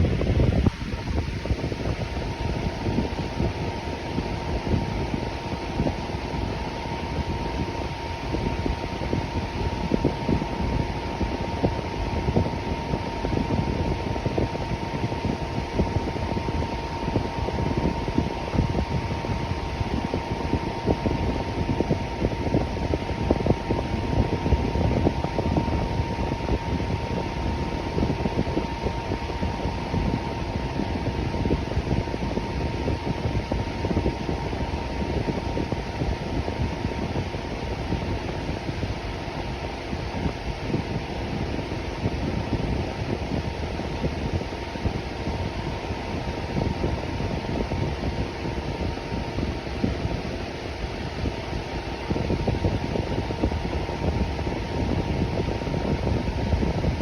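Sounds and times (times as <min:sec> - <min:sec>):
electric fan whooshing: 0:00.0 - 0:57.0
faint steady hum: 0:00.0 - 0:57.0.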